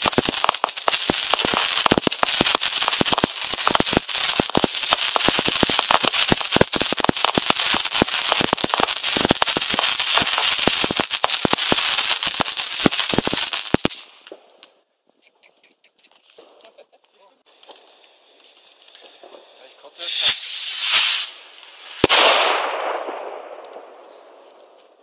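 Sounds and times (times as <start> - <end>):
burning pyrotechnics hiss: 0.0 - 14.6, 17.4 - 25.0
fireworks cracks and bangs: 0.0 - 14.8, 17.4 - 25.0.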